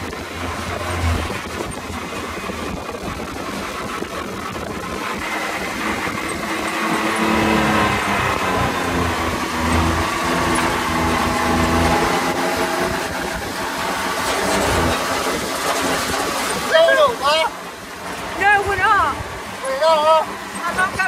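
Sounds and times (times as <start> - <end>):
wind noise: 0.0 - 19.6
buggy engine revving: 0.0 - 21.0.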